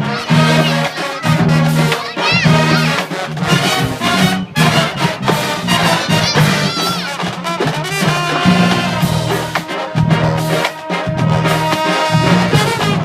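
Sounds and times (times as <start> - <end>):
marching band playing funk: 0.0 - 13.0.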